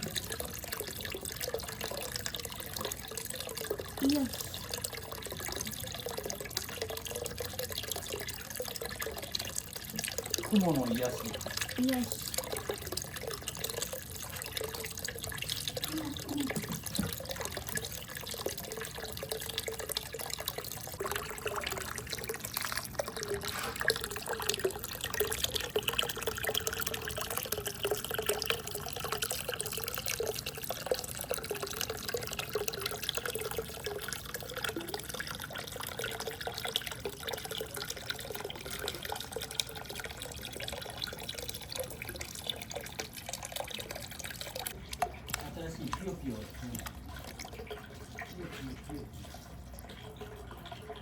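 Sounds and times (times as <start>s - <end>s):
water trickling: 0.0s - 51.0s.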